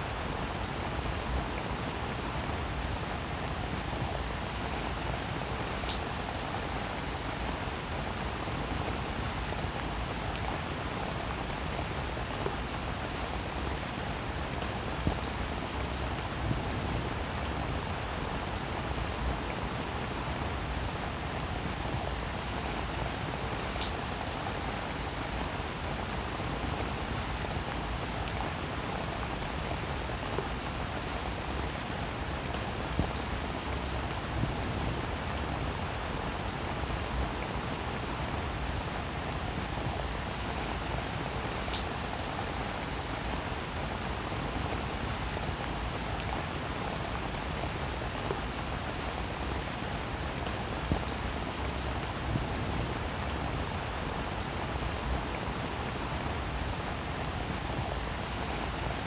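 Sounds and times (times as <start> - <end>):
steady rain-like hiss: 0.0 - 59.0.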